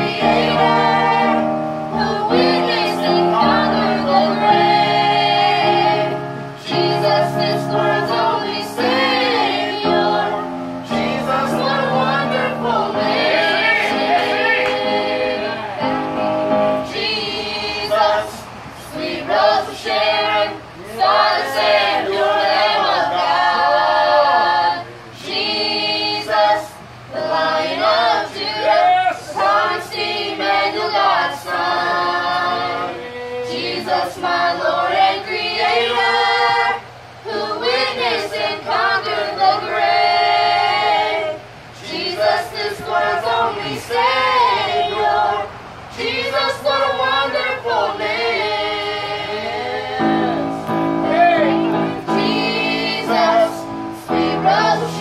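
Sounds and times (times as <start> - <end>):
mixed choir singing: 0.0 - 55.0.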